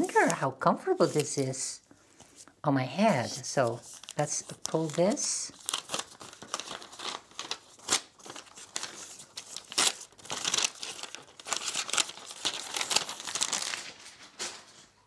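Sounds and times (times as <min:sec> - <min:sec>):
paper wrapping crinkling: 0:00.0 - 0:00.4, 0:01.0 - 0:01.6, 0:03.2 - 0:15.0.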